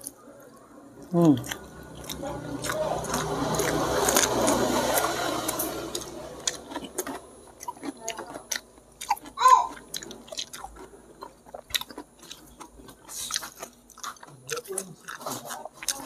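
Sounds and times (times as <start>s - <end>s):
wet chewing and mouth clicks: 0.0s - 16.0s.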